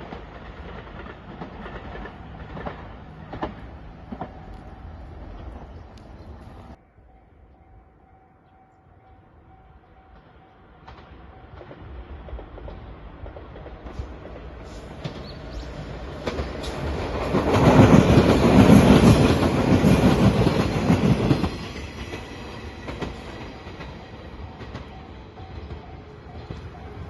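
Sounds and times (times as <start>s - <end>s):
train wheels clattering over rail joints: 0.0s - 5.8s, 10.8s - 27.0s.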